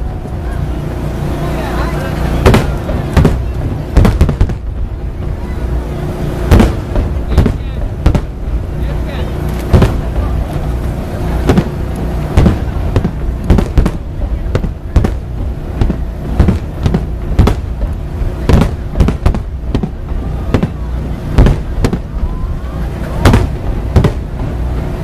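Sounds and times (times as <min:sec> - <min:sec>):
fireworks bangs: 0:00.0 - 0:25.0
low rumble of fireworks: 0:00.0 - 0:25.0.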